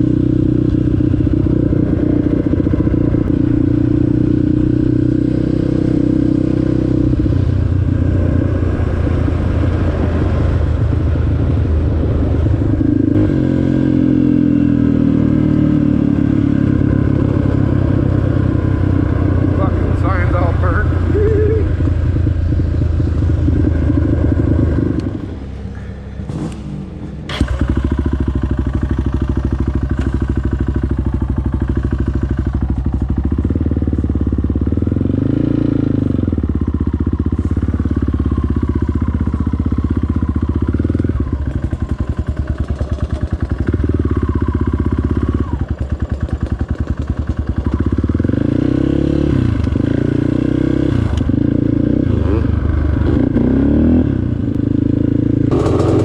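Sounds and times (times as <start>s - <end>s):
off-road engine running: 0.0s - 56.0s.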